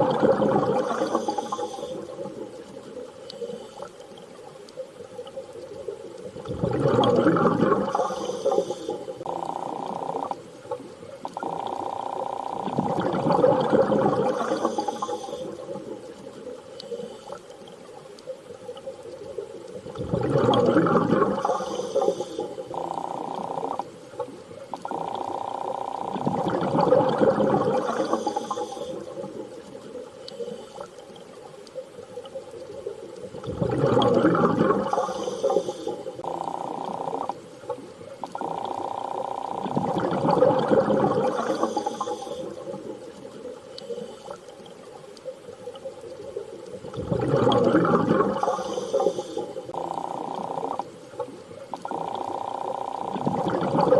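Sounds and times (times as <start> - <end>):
underwater rushing water: 0.0 - 53.9.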